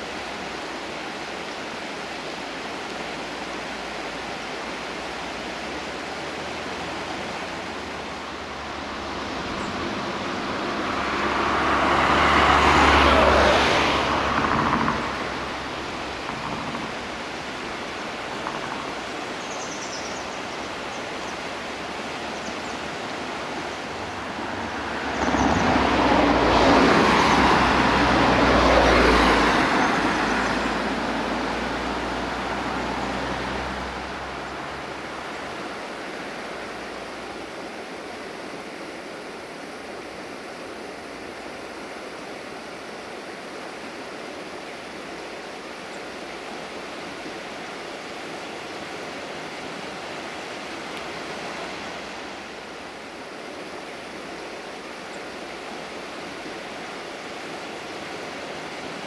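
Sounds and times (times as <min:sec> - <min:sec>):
steady rushing background noise: 0:00.0 - 0:59.0
vehicles passing: 0:00.0 - 0:59.0.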